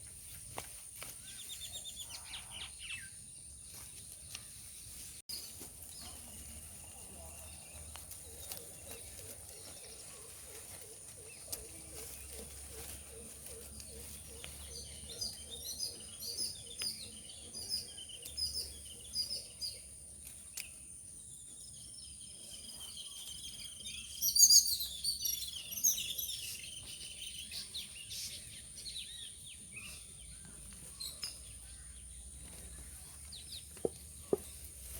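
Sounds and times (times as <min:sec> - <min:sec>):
birds chirping and calling: 0:01.0 - 0:34.9.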